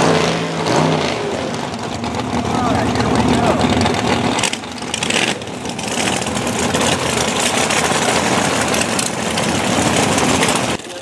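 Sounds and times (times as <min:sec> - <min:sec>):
drag racing car engine running: 0:00.0 - 0:11.0.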